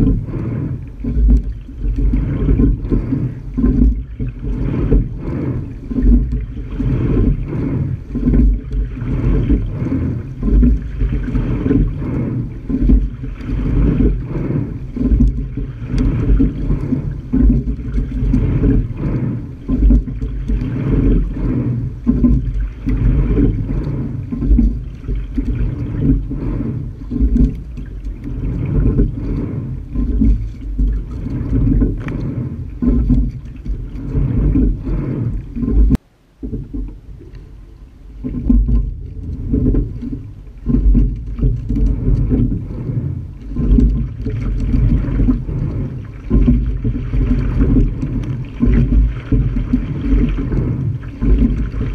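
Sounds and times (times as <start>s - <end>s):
wind on microphone: 0.0s - 37.4s, 38.1s - 51.9s
rushing water: 0.0s - 51.9s.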